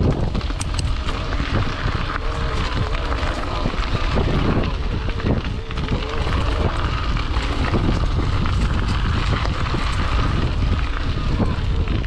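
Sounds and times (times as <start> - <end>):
bike knocks and rattles: 0.0 - 12.0
tyre noise: 0.0 - 12.0
wind over microphone: 0.0 - 12.0.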